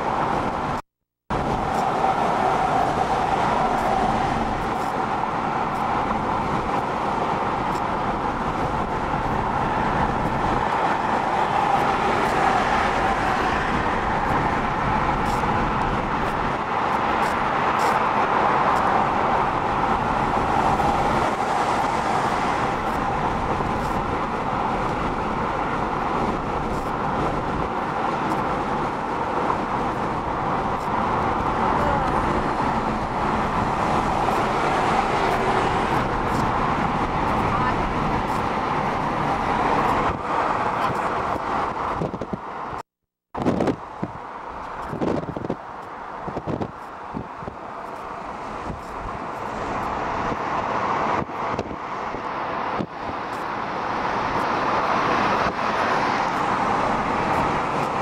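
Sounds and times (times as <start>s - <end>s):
car engine hum: 0.0s - 42.8s, 43.4s - 58.0s
road and tyre noise: 0.0s - 58.0s.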